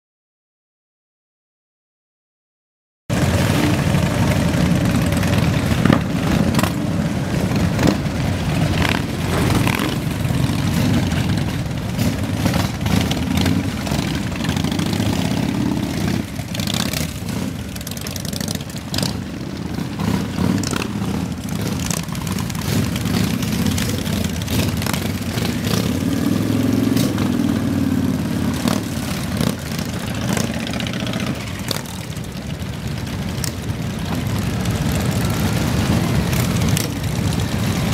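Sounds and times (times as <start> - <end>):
motorcycle engines rumbling: 3.1 - 37.9.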